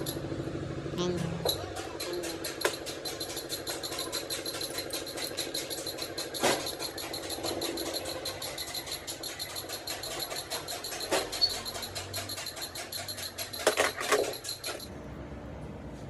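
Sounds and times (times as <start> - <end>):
engine running: 0.0 - 16.0
loud engine knock: 1.2 - 14.4
rapid even ticking: 1.5 - 14.9.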